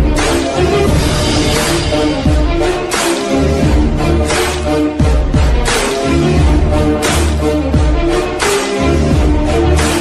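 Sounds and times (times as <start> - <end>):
music with heavy bass beat: 0.0 - 10.0.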